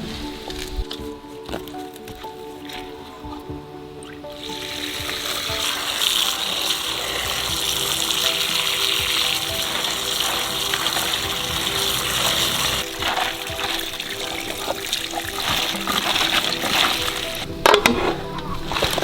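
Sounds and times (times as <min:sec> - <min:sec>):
soft background music: 0:00.0 - 0:19.0
water running: 0:00.0 - 0:19.0.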